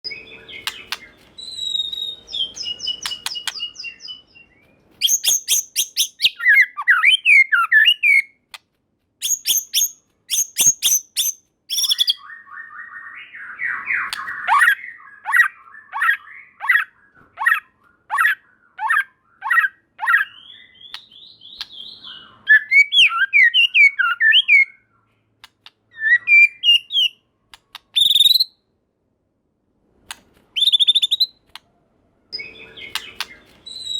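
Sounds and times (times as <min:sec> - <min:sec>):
bird singing whistled phrases: 0:00.0 - 0:08.4, 0:09.2 - 0:25.0, 0:25.9 - 0:27.2, 0:27.9 - 0:28.6, 0:30.6 - 0:31.4, 0:32.4 - 0:33.9.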